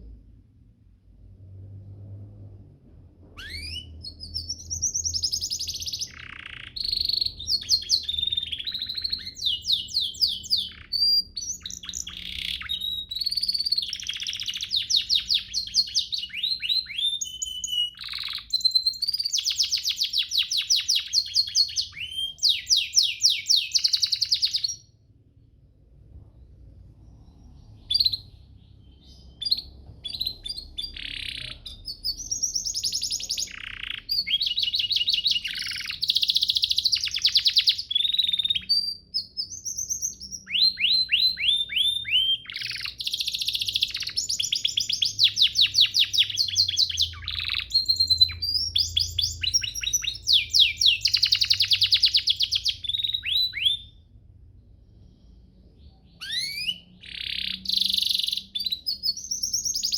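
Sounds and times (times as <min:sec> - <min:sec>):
short bird chirps: 0:03.4 - 0:24.9, 0:26.4 - 0:54.0, 0:54.8 - 0:59.9
canary singing trills: 0:03.4 - 0:25.0, 0:26.6 - 0:54.2, 0:54.9 - 0:59.9.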